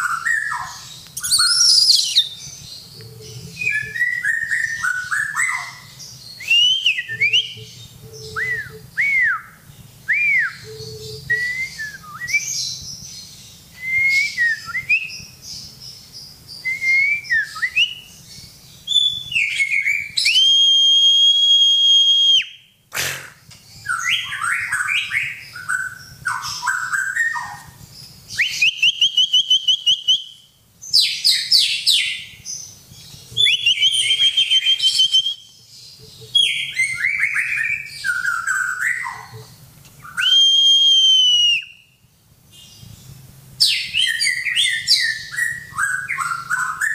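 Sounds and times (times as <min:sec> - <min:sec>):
songbird whistling song: 0:00.0 - 0:46.9.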